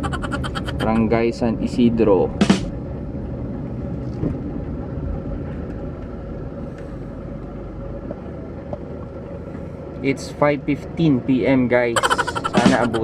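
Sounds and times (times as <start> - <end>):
car road and engine rumble: 0.0 - 11.8
faint steady hum: 0.0 - 13.0.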